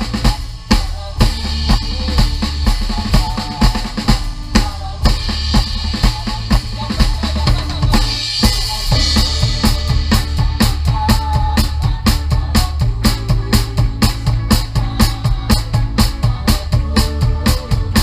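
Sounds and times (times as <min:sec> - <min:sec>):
band playing upbeat worship song: 0:00.0 - 0:18.0
drum kit playing busy beat: 0:00.0 - 0:18.0.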